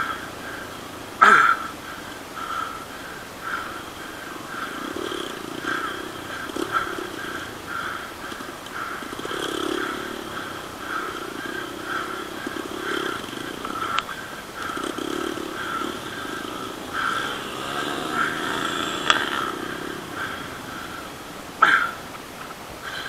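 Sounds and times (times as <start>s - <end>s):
distant motorcycle engines revving: 0.0s - 23.0s.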